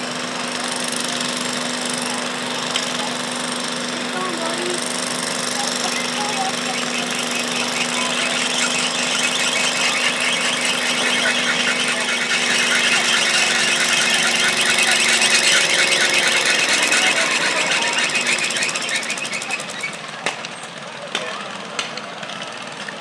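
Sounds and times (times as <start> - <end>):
high squealing rattle: 0.0 - 20.3
garden tractor engine under load: 0.0 - 22.5.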